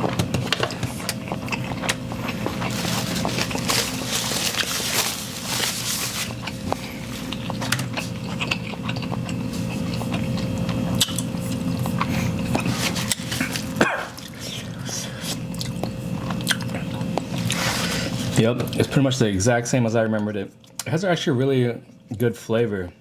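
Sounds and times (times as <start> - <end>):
noodles being chewed: 0.0 - 18.9
steady low hum: 0.0 - 23.0.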